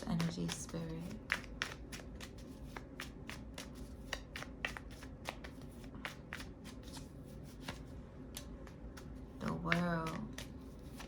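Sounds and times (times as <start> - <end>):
cards being shuffled by hand: 0.0 - 11.0.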